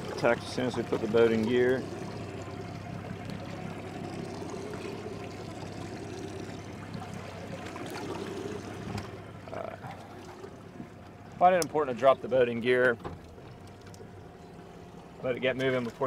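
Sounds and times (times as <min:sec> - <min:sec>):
outboard motor idling: 0:00.0 - 0:16.0
water sloshing against a hull: 0:00.0 - 0:16.0.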